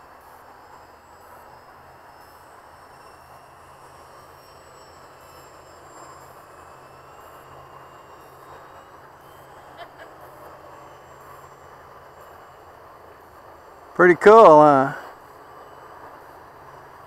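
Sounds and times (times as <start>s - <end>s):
rc plane motor whine: 0.0s - 17.0s.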